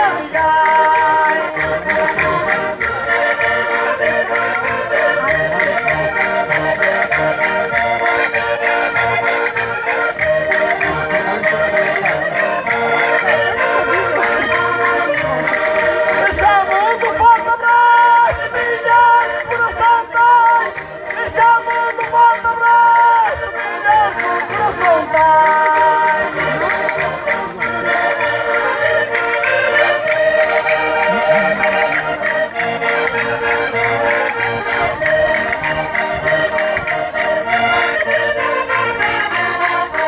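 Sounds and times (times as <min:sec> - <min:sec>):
accordion playing folk dance tune: 0:00.0 - 0:40.0.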